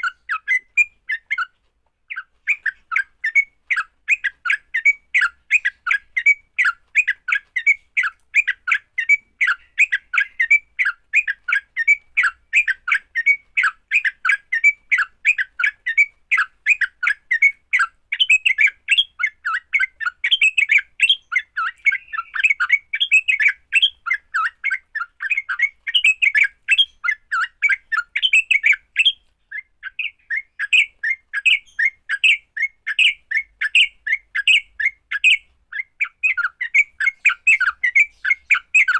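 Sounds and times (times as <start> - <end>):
bird chattering calls: 2.1 - 38.9.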